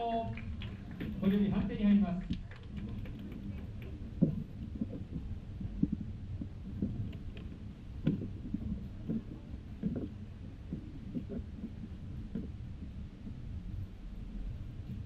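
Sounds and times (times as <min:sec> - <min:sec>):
low rumbling hall noise: 0:00.0 - 0:15.0
soft irregular thuds: 0:00.3 - 0:15.0.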